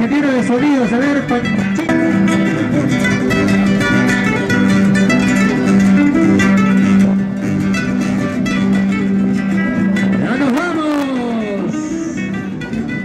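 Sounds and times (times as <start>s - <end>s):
acoustic guitars strummed and plucked: 0.0s - 13.0s.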